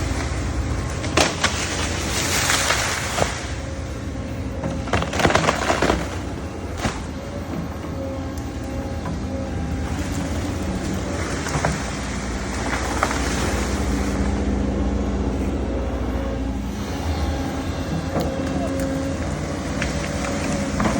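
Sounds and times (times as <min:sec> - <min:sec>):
heavy diesel engine rumbling: 0:00.0 - 0:20.9.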